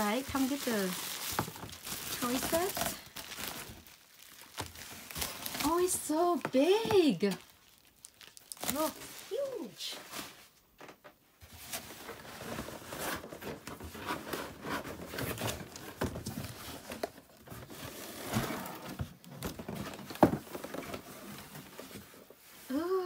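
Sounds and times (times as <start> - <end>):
cardboard rustling and scraping: 0.0 - 7.5, 11.4 - 22.8.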